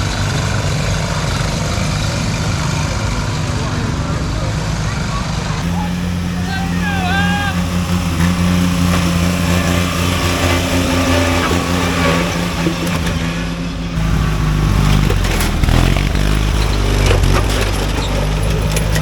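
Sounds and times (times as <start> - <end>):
lawn mower engines droning: 0.0 - 19.0.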